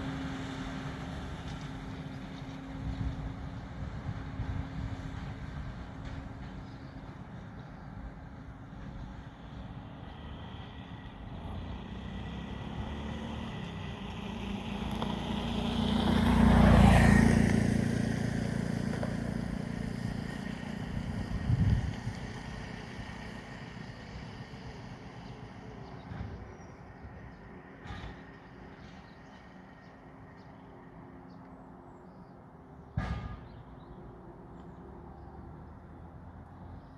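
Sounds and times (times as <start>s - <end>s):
tractor engine and baler machinery: 0.0s - 31.0s.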